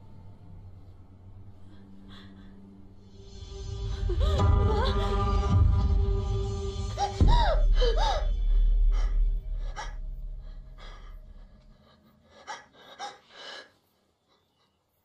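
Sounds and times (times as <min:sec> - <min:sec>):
low film-score drone: 0:00.0 - 0:13.0
woman breathing hard: 0:01.5 - 0:06.0, 0:06.8 - 0:14.8.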